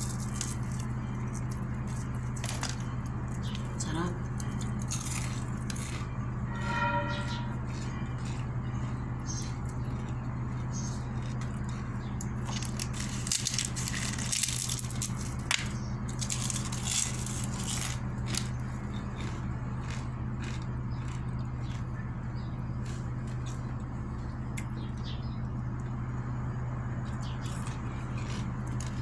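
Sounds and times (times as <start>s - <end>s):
person chewing and crunching food: 0.0s - 6.5s, 7.2s - 24.8s, 27.0s - 29.0s
steady low hum: 0.0s - 29.0s.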